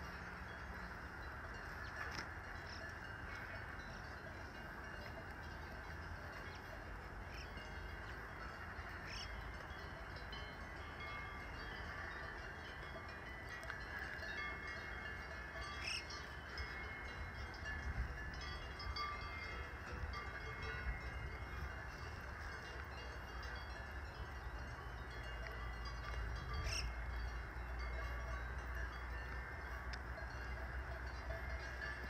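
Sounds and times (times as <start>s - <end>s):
bells ringing: 0.0s - 32.0s
low steady rumble: 0.0s - 32.0s.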